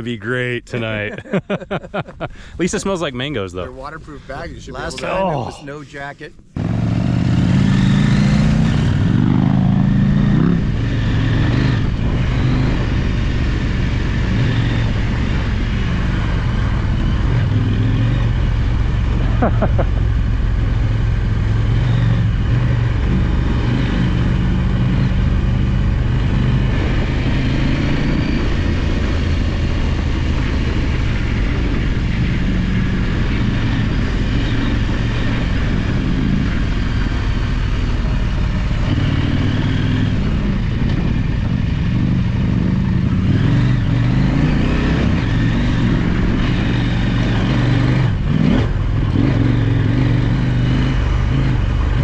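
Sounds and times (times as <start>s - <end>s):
motorcycle engine revving: 6.6s - 52.0s.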